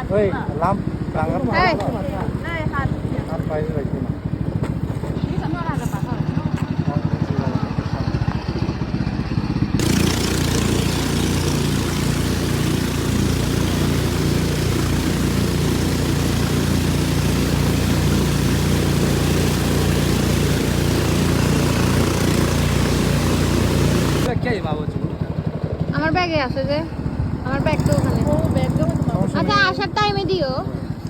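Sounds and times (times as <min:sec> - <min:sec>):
motorboat engine running: 0:00.0 - 0:31.0.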